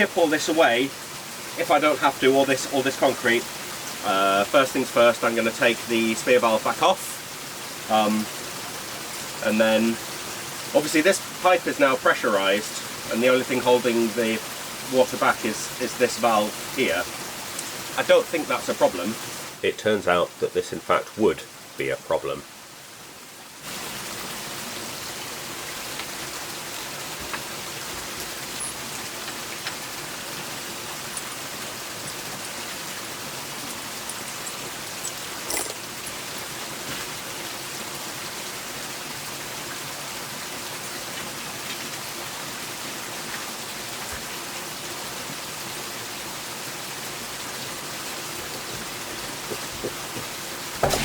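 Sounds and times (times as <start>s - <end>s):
water spraying from pipe: 0.0s - 19.6s, 23.5s - 51.0s.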